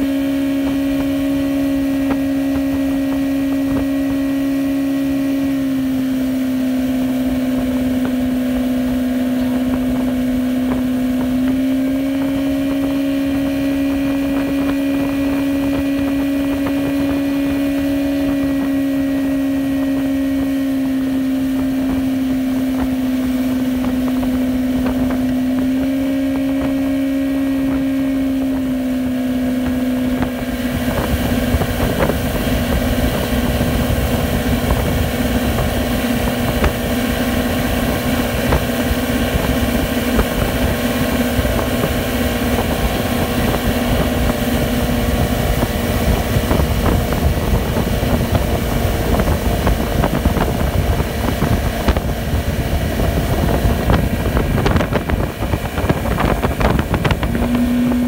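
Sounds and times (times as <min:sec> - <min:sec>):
outboard motor running: 0:00.0 - 0:58.0
water rushing from wake: 0:00.0 - 0:58.0.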